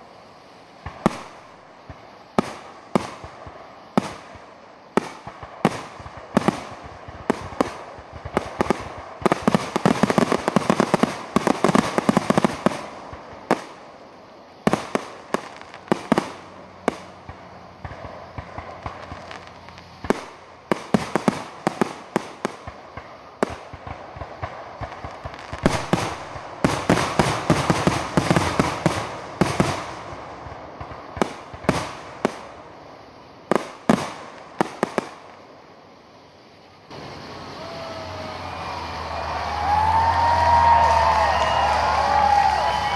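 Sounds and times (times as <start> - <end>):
fireworks bangs: 0.7 - 36.0, 36.6 - 42.9.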